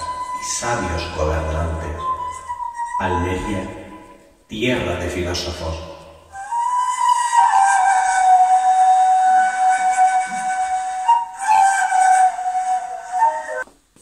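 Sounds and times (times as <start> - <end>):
breathy flute-like wind instrument: 0.0 - 4.5, 6.3 - 13.6.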